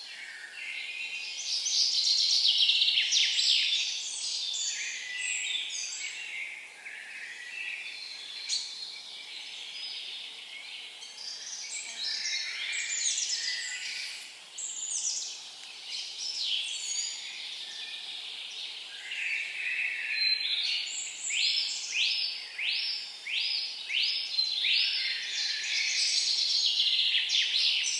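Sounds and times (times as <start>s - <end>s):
songbirds singing: 0.0s - 27.9s.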